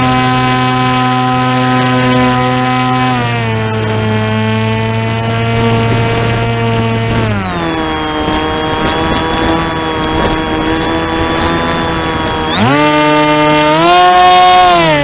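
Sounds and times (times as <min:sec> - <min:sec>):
model airplane motor and propeller: 0:00.0 - 0:15.0.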